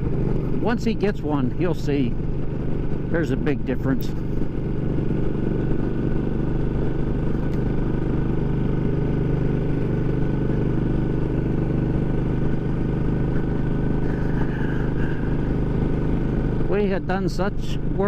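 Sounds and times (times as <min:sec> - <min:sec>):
motorcycle engine running steadily: 0:00.0 - 0:18.0.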